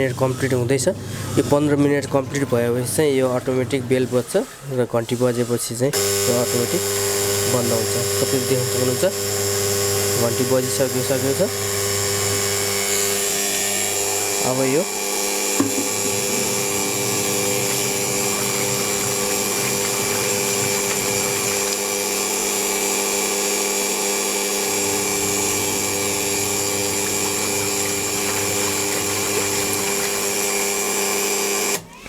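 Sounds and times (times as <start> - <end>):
washing machine motor humming: 5.9 - 32.0.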